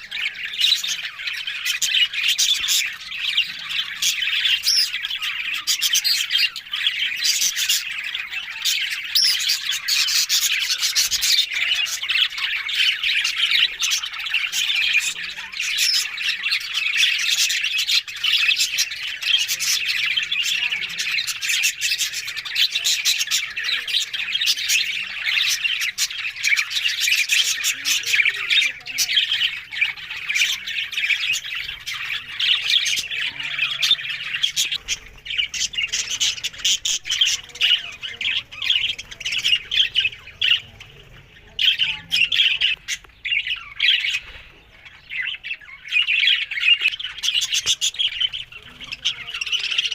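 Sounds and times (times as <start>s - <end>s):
budgerigars chattering and squawking: 0.0s - 49.9s.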